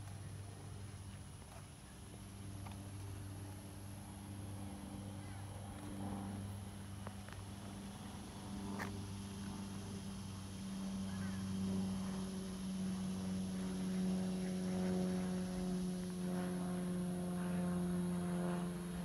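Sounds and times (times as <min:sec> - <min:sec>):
distant motor drone: 0:00.0 - 0:19.0.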